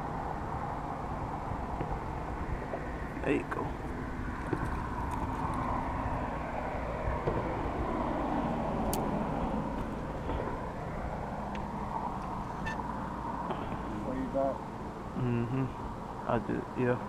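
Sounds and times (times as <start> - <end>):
rumble of road traffic: 0.0 - 17.0.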